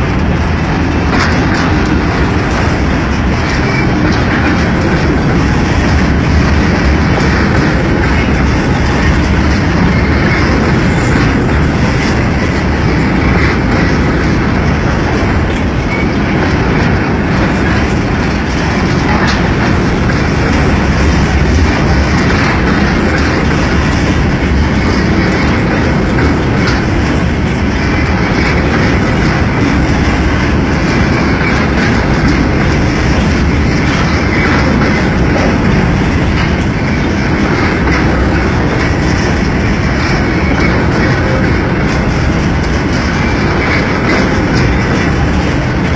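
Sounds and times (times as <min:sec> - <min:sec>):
freight train rolling past: 0:00.0 - 0:45.9.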